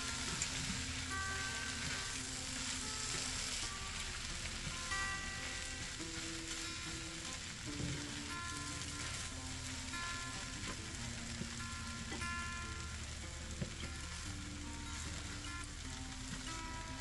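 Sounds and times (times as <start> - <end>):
food sizzling in a skillet: 0.0 - 17.0
soft background music: 0.0 - 17.0.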